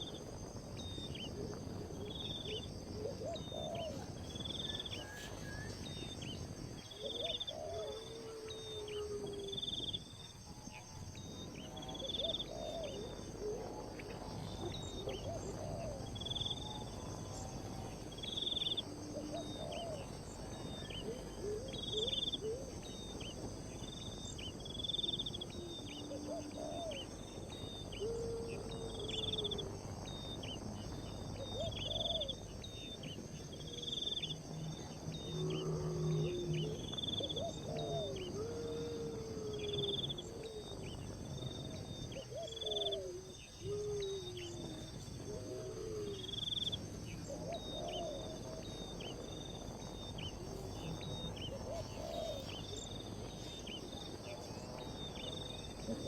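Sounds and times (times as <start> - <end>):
high drone of insects: 0.0 - 56.0
lower insect calls: 0.0 - 56.0.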